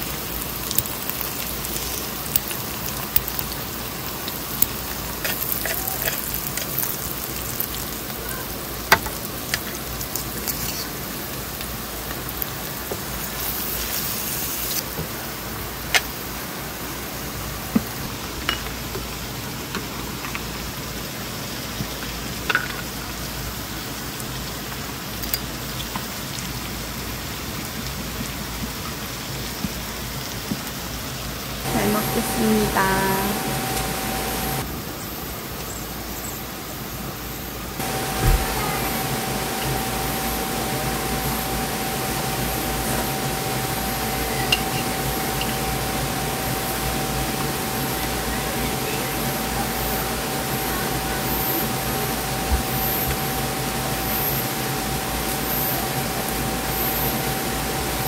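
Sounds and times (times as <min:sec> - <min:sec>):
food sizzling and popping: 0:00.0 - 0:16.4, 0:17.6 - 0:30.8, 0:31.6 - 0:34.7, 0:37.8 - 0:58.0.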